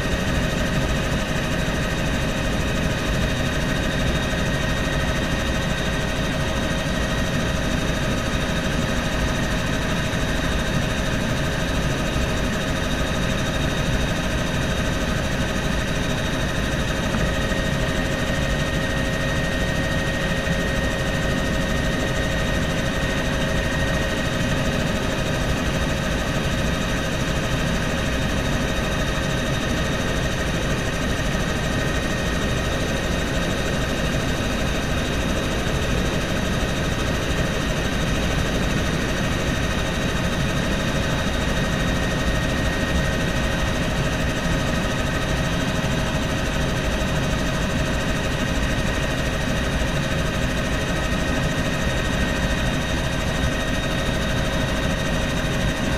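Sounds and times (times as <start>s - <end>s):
helicopter engine and rotor rumble: 0.0s - 55.9s.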